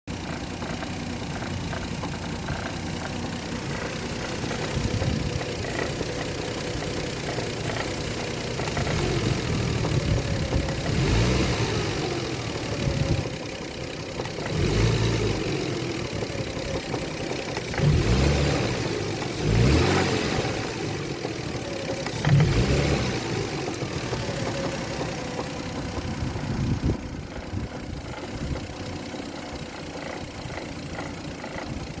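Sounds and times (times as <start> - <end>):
car engine idling and revving: 0.0 - 32.0
engine knock: 0.1 - 32.0.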